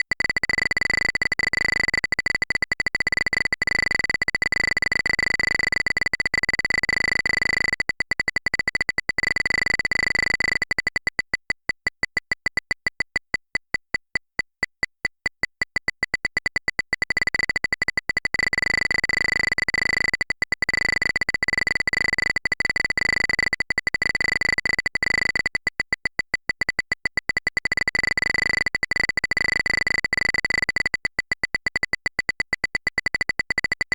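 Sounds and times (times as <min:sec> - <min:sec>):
geiger counter clicking: 0:00.0 - 0:33.9.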